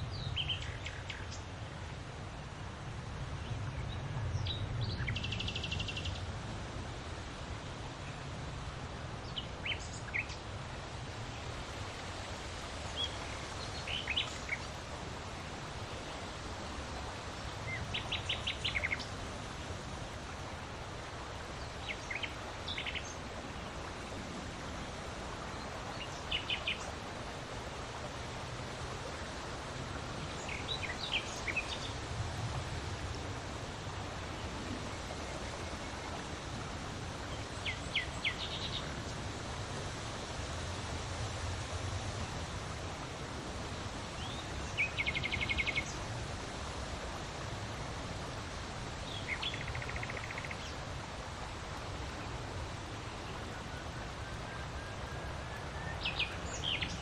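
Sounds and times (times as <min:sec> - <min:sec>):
wind blowing with low rumble: 0:00.0 - 0:57.0.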